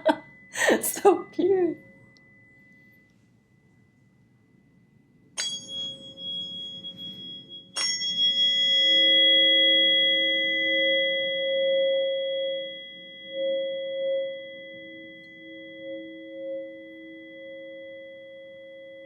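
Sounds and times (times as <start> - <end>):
lower ringing tone: 0.0 - 19.0
tuning fork ringing tone: 0.0 - 19.0.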